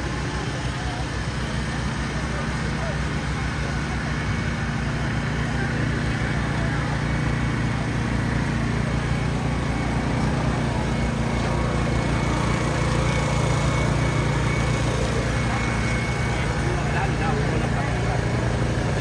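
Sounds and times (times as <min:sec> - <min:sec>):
small engine droning: 0:00.0 - 0:19.0.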